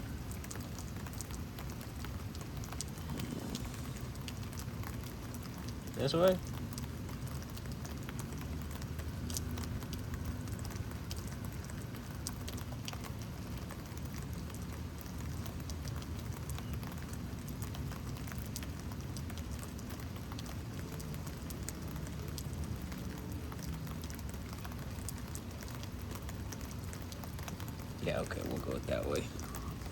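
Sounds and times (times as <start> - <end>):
close raindrop ticks: 0.0 - 29.9
steady rain falling: 0.0 - 29.9.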